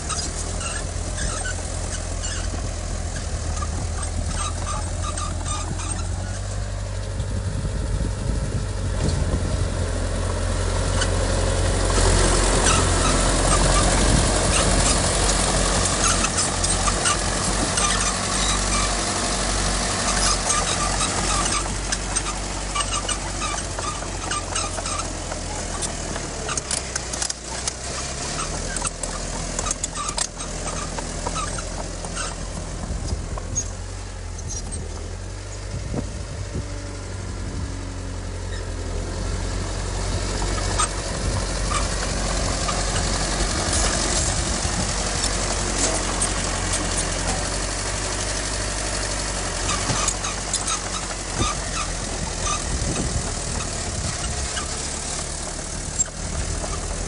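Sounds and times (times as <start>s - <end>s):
clanking and rattling: 0.0s - 7.4s, 10.8s - 36.6s, 40.0s - 57.0s
heavy machine diesel engine running: 0.0s - 57.0s.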